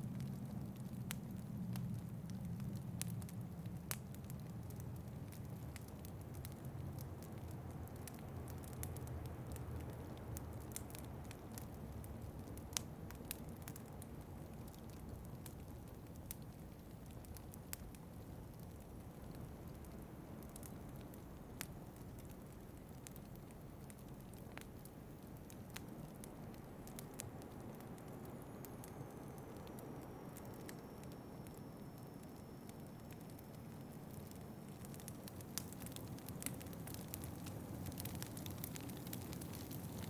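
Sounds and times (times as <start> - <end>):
low rumble of wind: 0.0 - 40.0
wood fire crackling and popping: 0.0 - 40.0.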